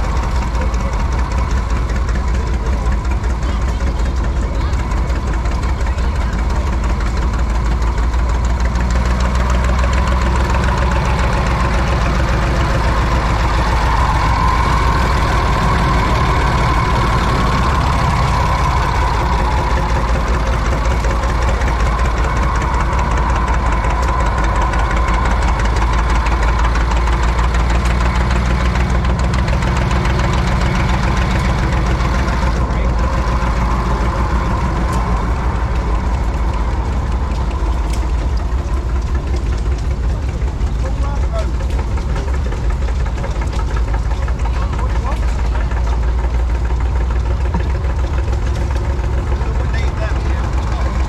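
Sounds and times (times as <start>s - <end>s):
stationary engine running: 0.0s - 51.0s.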